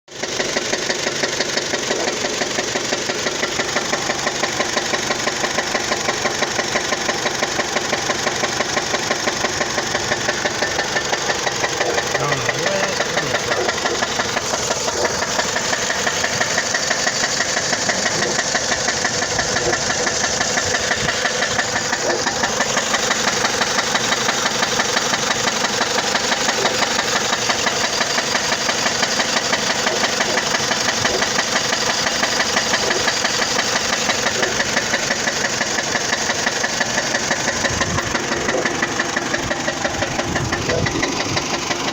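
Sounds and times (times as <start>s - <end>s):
car engine idling with knock: 0.1s - 41.9s.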